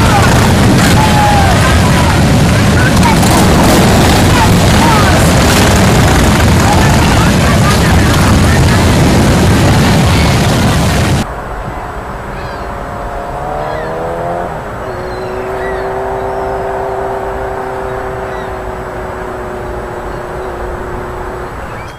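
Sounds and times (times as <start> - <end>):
distant engine humming: 0.0 - 21.9
outdoor rumble: 0.0 - 21.9.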